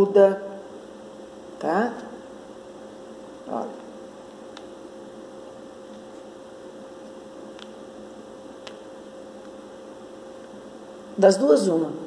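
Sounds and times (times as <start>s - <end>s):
electrical hum with hiss: 0.0s - 12.0s.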